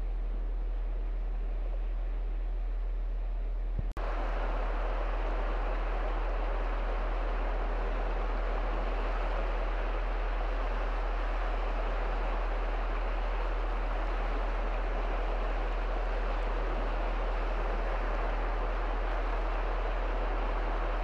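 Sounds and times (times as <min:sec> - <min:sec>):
constant low hum: 0:00.0 - 0:21.0.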